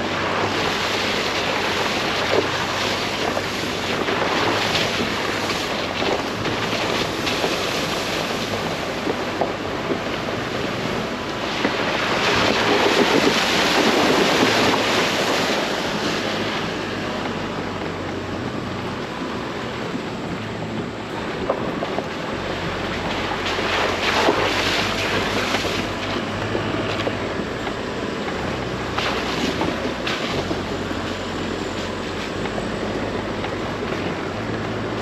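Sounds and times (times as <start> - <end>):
low engine hum: 0.0 - 35.0
tyre and road noise: 0.0 - 35.0.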